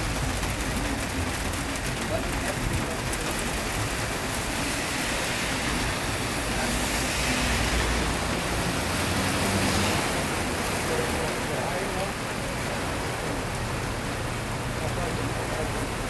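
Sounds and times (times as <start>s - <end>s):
cars driving on wet road: 0.0s - 16.0s
heavy rain pouring on street: 0.0s - 16.0s.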